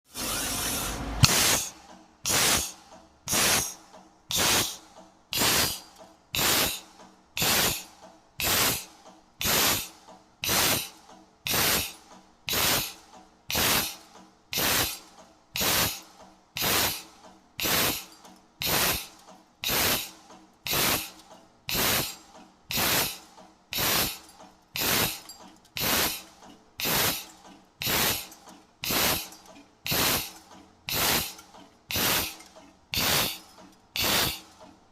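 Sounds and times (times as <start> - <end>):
punching machine air hiss: 0.1 - 24.2, 24.8 - 25.2, 25.8 - 34.5.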